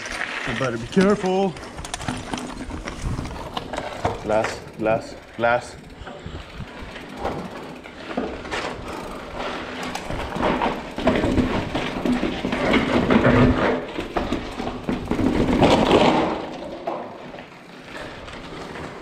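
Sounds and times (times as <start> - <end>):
bike tyres crunching over glass: 0.0 - 5.6, 6.6 - 19.0
bike knocks and rattles: 0.0 - 19.0.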